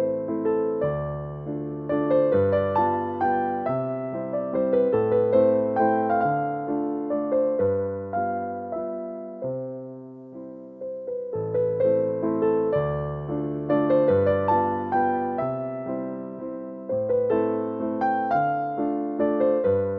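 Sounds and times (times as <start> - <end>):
solo piano waltz: 0.0 - 19.9.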